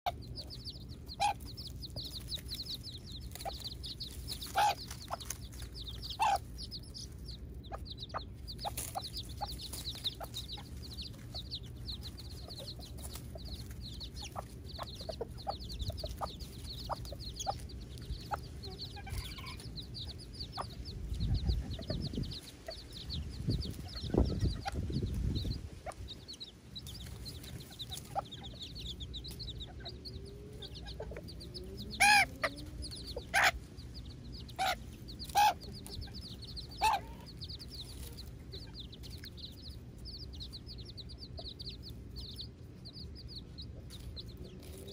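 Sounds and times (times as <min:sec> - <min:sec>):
baby chicks peeping: 0:00.0 - 0:44.9
hens clucking: 0:00.1 - 0:44.9
low rumble: 0:00.2 - 0:44.9.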